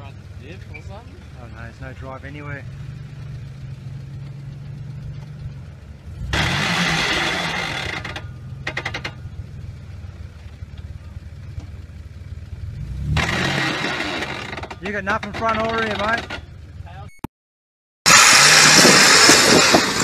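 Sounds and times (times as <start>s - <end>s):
suv engine revving: 0.0s - 16.9s, 18.1s - 20.0s.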